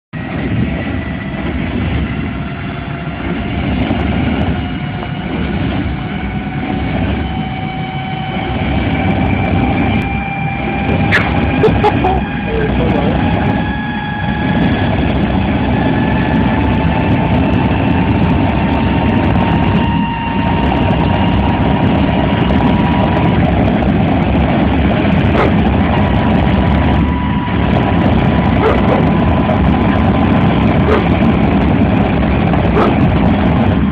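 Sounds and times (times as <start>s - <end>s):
jet engine roaring: 0.2s - 33.9s.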